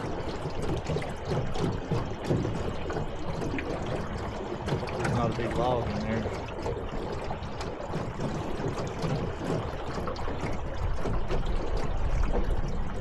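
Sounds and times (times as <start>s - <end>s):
water trickling against boat: 0.0s - 13.0s.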